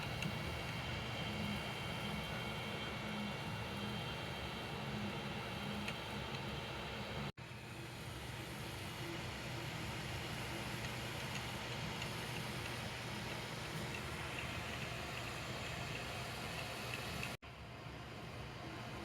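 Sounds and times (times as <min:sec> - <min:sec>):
printer fan and motor hum: 0:00.0 - 0:19.0.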